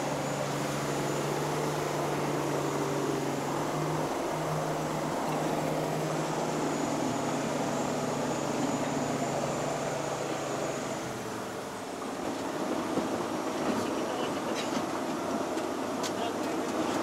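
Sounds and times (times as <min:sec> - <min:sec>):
propeller engine drone: 0:00.0 - 0:17.0.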